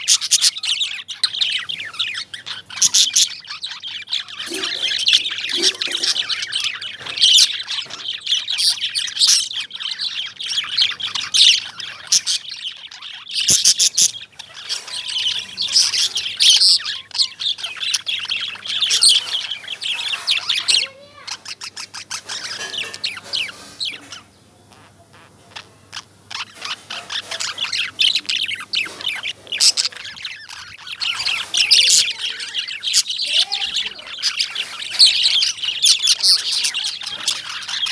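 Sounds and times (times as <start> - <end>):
lovebirds chirping: 0.0 - 37.9.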